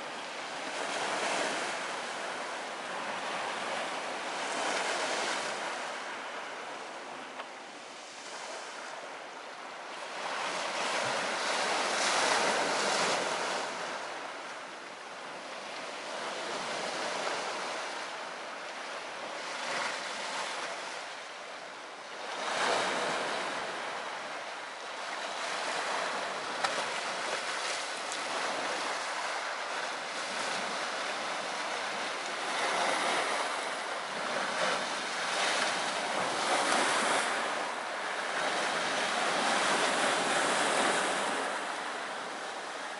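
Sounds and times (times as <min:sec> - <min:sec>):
sea surf on shore: 0:00.0 - 0:42.9.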